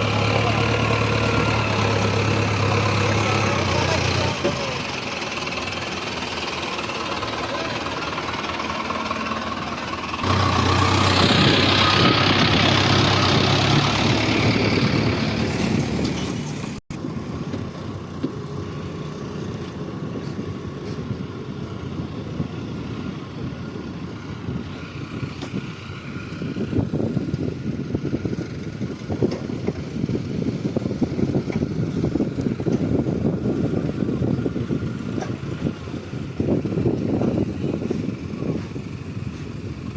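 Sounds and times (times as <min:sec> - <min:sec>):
heavy diesel engines running: 0:00.0 - 0:39.9
rough uneven engine: 0:00.0 - 0:39.9.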